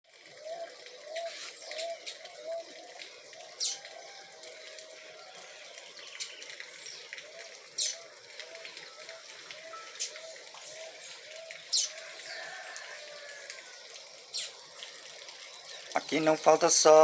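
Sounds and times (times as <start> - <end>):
faint hiss of water: 0.1 - 17.0.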